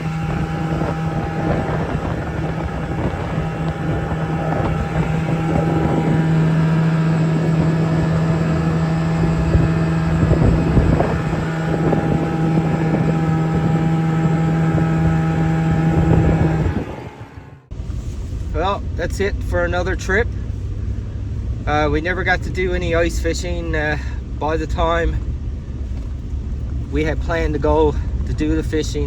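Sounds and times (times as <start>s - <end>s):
snowmobile engine running: 0.0s - 29.0s
wind noise on microphone: 0.0s - 29.0s.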